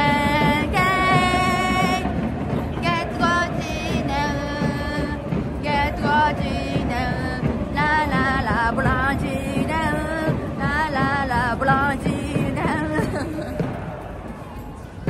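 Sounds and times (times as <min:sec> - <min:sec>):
music with singing: 0:00.0 - 0:15.0.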